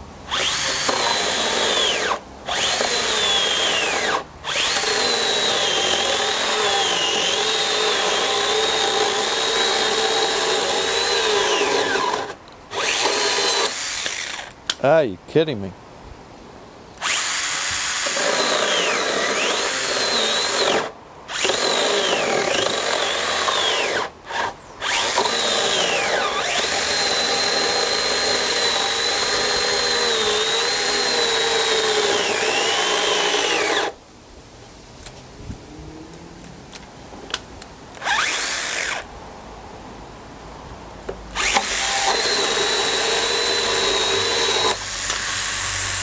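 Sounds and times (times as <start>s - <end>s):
pruning saw cutting wood: 0.3s - 14.6s, 17.0s - 34.0s, 38.0s - 39.1s, 41.3s - 46.0s.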